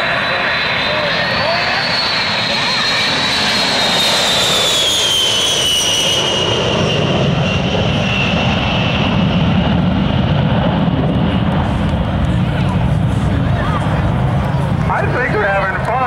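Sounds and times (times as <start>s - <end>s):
high jet whine: 0.0s - 16.0s
jet engines flyby: 0.0s - 16.0s
low jet rumble: 0.0s - 16.0s.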